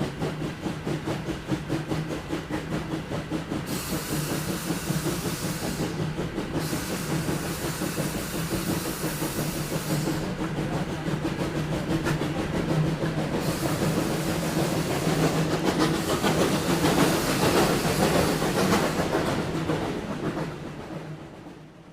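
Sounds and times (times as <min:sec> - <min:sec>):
rhythmic beat of train: 0:00.0 - 0:21.9
steam hissing: 0:00.3 - 0:20.6.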